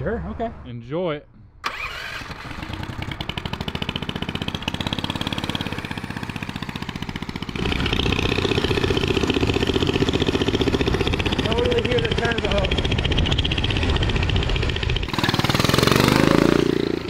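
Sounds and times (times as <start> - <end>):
single-cylinder engine puttering: 1.6 - 17.0.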